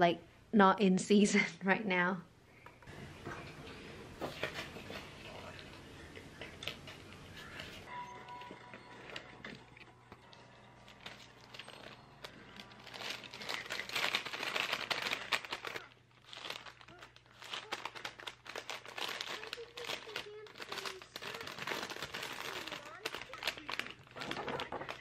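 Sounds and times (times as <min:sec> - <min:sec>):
paper crinkling and rustling: 0:04.2 - 0:25.0.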